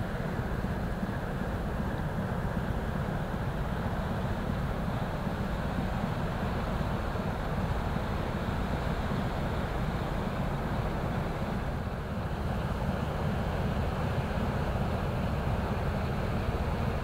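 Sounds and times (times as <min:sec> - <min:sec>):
ship diesel engine rumble: 0:00.0 - 0:17.0.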